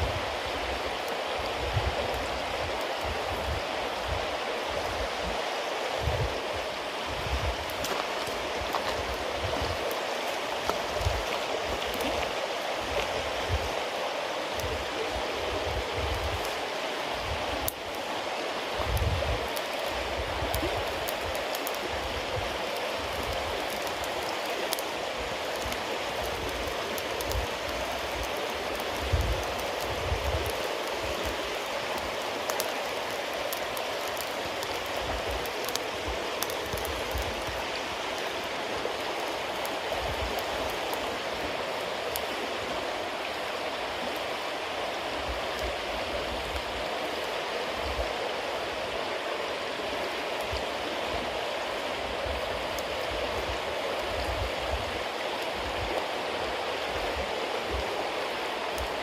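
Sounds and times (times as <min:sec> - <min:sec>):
campfire hissing and crackling: 0:00.0 - 0:59.0.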